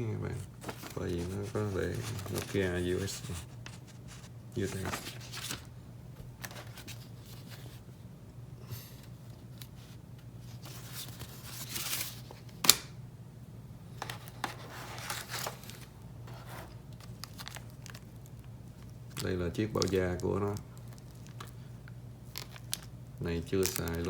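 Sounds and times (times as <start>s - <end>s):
cardboard and plastic rustling: 0.2s - 7.9s, 8.8s - 12.6s, 14.0s - 24.0s.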